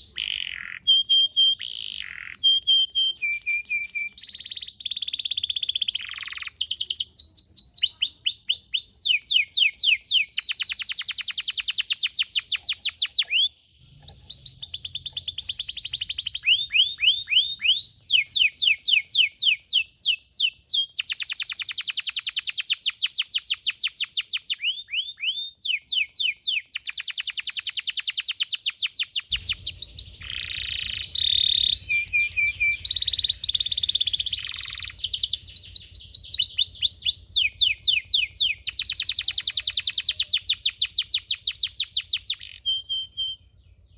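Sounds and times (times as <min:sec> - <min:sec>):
canary singing trills: 0:00.0 - 0:43.9.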